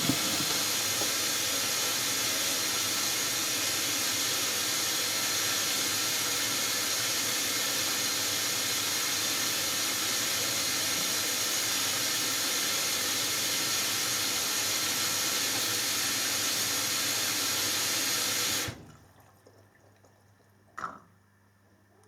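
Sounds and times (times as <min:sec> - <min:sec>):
washing machine filling with water: 0:00.0 - 0:20.9.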